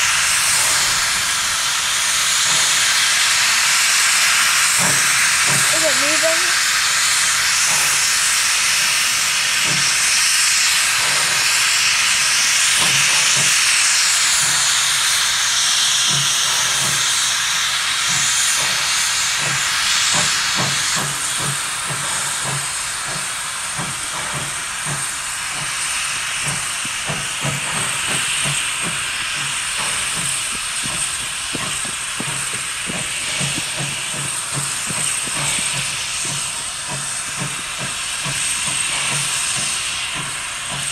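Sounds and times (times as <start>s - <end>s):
steam hissing: 0.0s - 40.9s
steam locomotive exhaust chuffs: 0.0s - 40.9s.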